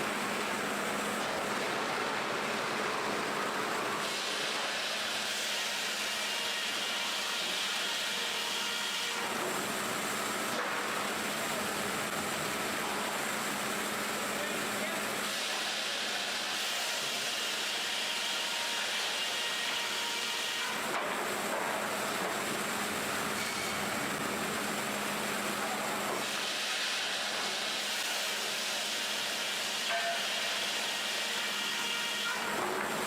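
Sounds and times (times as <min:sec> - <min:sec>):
constant machine hum: 0:00.0 - 0:33.0
sawmill machinery running: 0:00.0 - 0:33.0.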